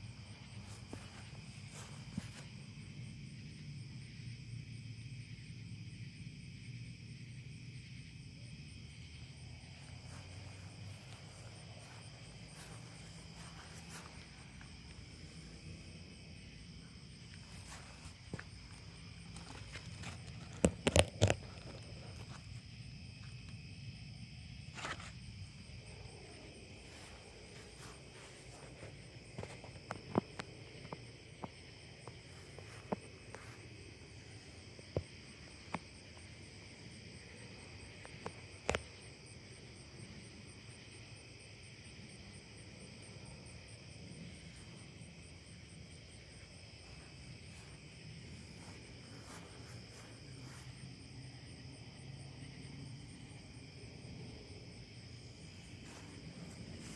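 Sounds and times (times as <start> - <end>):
crickets and insects trilling: 0.0 - 56.9.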